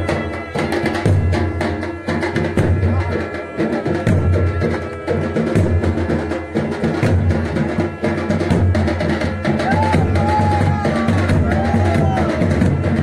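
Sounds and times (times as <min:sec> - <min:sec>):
dhol drums beating: 0:00.0 - 0:13.0
shehnai playing a tune: 0:00.0 - 0:13.0.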